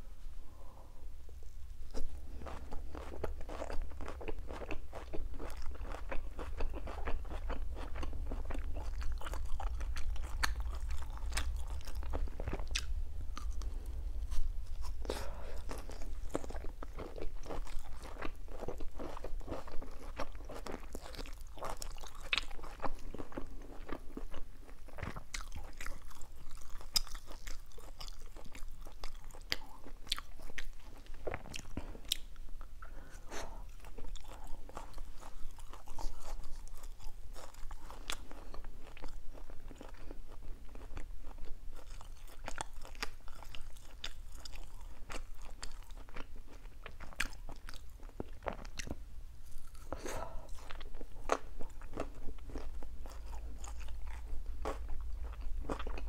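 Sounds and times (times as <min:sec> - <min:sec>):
person chewing crunchy food: 0:01.9 - 0:56.0.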